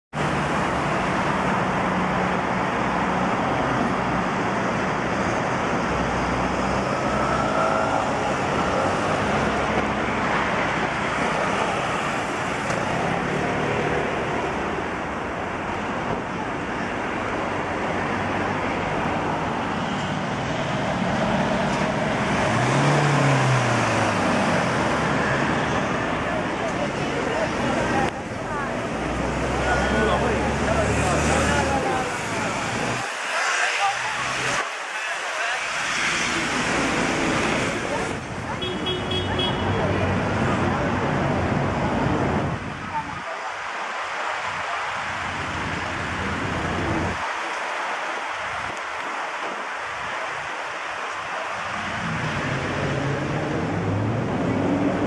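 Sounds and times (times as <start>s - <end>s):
cars driving past: 0.2s - 55.0s.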